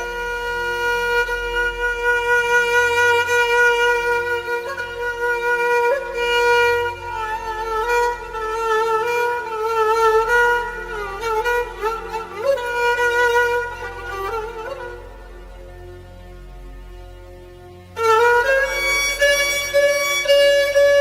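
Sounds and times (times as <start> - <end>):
violin melody: 0.0 - 21.0.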